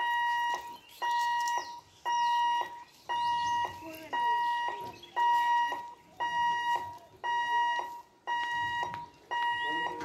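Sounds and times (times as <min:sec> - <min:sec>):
level crossing alarm beeping: 0:00.0 - 0:10.0.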